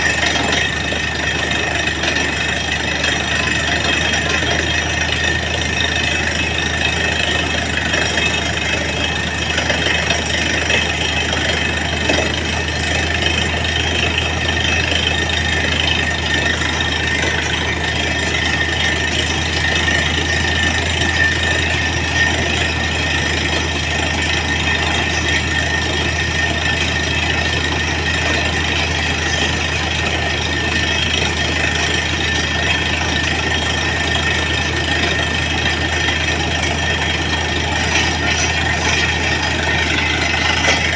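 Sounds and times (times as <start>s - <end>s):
diesel engine drone: 0.0s - 40.9s
machine whine: 0.0s - 40.9s.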